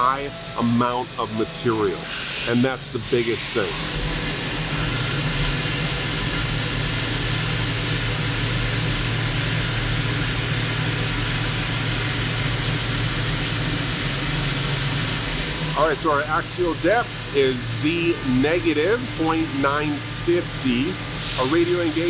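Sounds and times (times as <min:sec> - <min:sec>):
milling machine cutting metal: 0:00.0 - 0:22.0
thin high whine: 0:00.0 - 0:22.0.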